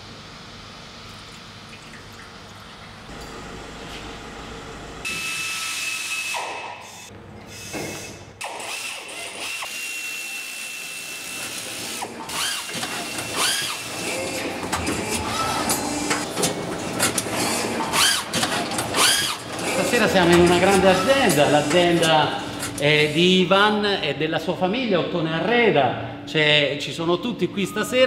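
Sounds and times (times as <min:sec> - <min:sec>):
factory machinery whining: 0:03.1 - 0:28.0.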